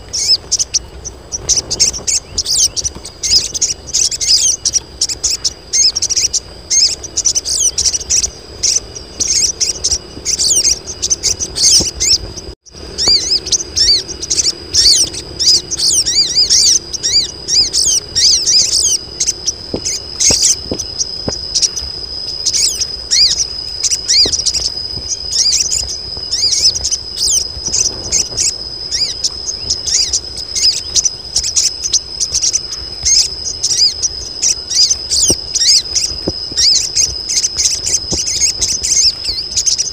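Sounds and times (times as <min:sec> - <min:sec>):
birds chirping rapidly: 0:00.0 - 0:39.9
steady high whine: 0:00.0 - 0:39.9.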